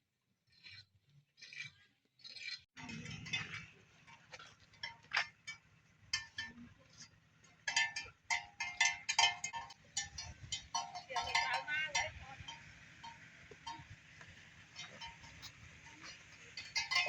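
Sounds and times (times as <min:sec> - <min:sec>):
light metallic clinking: 0:02.8 - 0:17.0.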